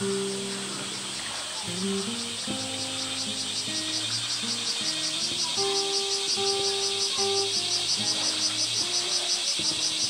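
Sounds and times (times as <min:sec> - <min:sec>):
background music of held notes: 0:00.0 - 0:10.0
insects buzzing: 0:00.0 - 0:10.0.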